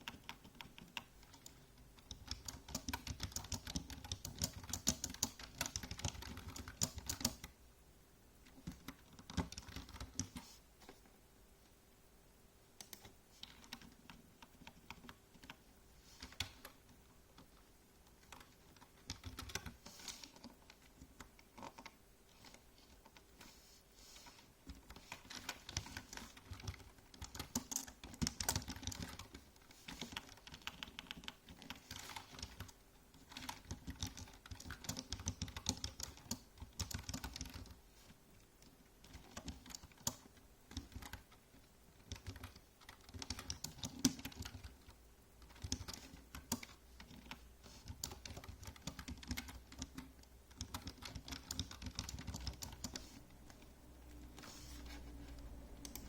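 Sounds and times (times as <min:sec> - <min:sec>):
typing on keyboard: 0:00.0 - 0:07.6, 0:08.5 - 0:10.4, 0:12.8 - 0:15.6, 0:16.2 - 0:23.2, 0:24.7 - 0:37.8, 0:38.6 - 0:53.7, 0:55.2 - 0:56.0.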